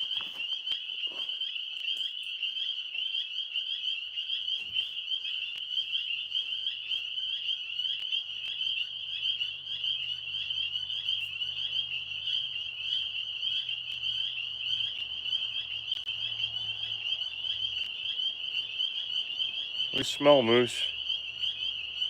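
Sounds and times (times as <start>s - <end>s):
tree frogs trilling: 0.0s - 22.0s.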